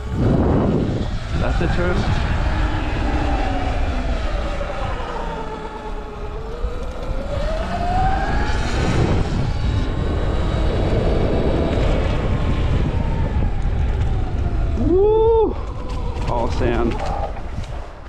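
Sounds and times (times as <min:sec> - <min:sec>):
electric dirt bike motor whining: 0:00.0 - 0:14.9
low rumble: 0:00.0 - 0:18.0.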